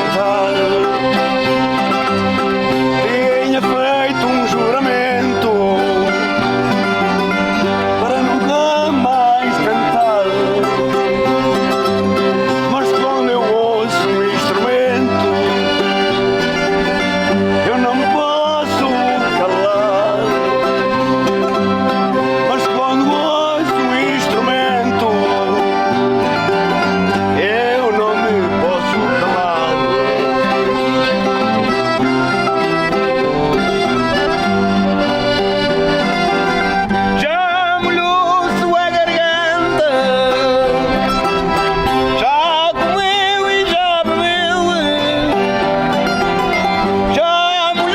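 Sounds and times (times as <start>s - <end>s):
accordion: 0.0s - 47.9s
string instruments playing: 0.0s - 47.9s.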